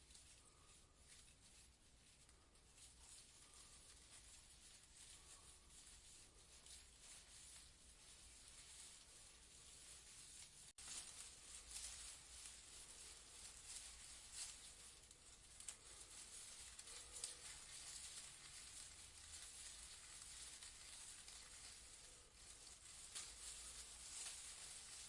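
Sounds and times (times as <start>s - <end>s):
leaves rustling in breeze: 0.0s - 25.0s.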